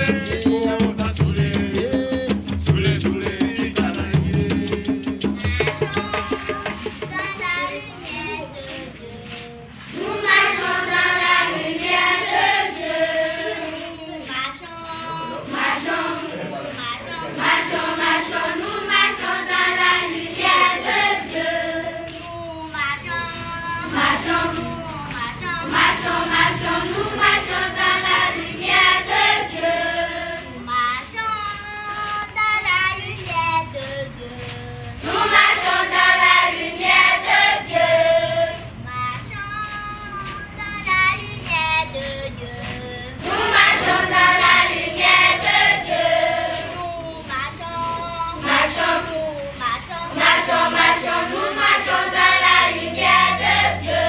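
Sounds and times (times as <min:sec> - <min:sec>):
children singing in chorus: 0:04.5 - 0:54.0.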